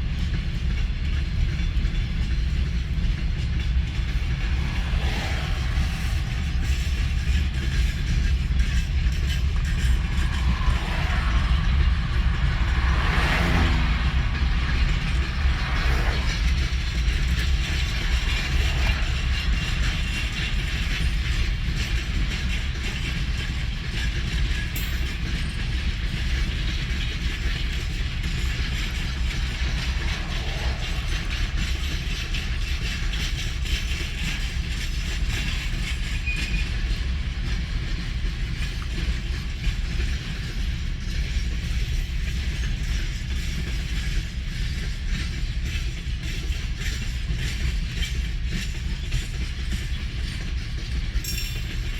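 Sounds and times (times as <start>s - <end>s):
freight train rumbling past: 0.0s - 51.9s
train cars rattling and clanking: 0.0s - 51.9s.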